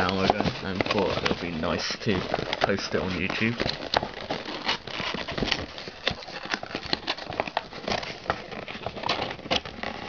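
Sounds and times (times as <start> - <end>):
packaging clicks and crackles: 0.0 - 10.0.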